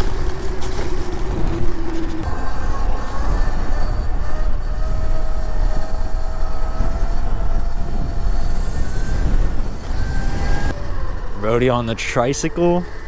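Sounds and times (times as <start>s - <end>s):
electric bike motor whining: 0.0s - 13.0s
wind rumble on microphone: 0.0s - 13.0s.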